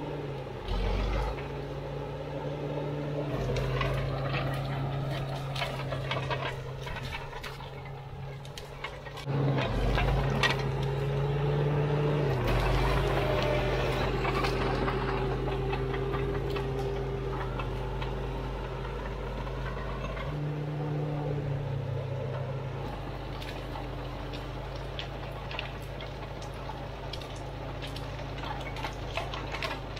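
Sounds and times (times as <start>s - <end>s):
bulldozer diesel engine under load: 0.0s - 29.9s.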